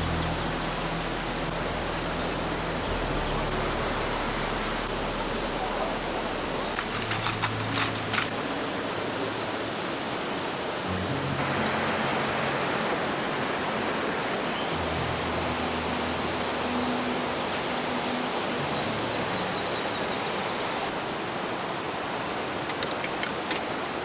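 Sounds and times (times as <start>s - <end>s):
stream rushing: 0.0s - 24.0s.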